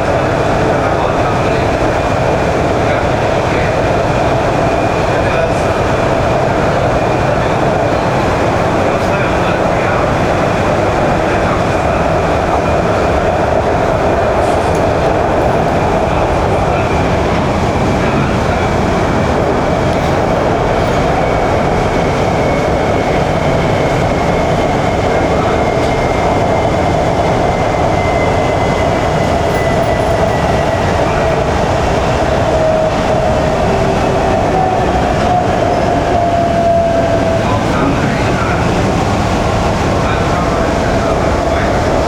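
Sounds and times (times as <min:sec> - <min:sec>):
wheels rumbling on rail: 0:00.0 - 0:42.0.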